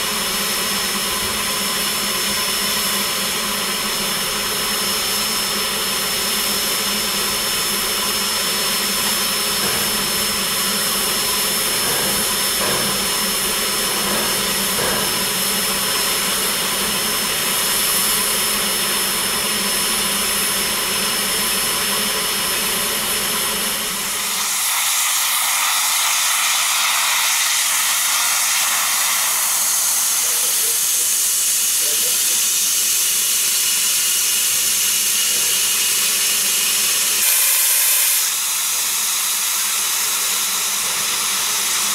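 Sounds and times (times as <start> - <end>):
steam venting hiss: 0.0 - 41.9.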